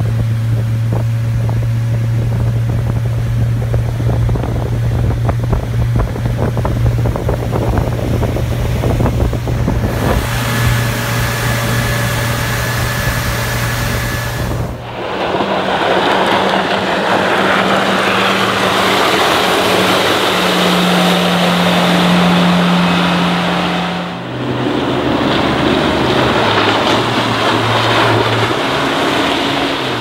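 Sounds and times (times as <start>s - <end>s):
outboard engine running: 0.0s - 30.0s
rushing water: 0.0s - 30.0s
wind: 0.0s - 30.0s.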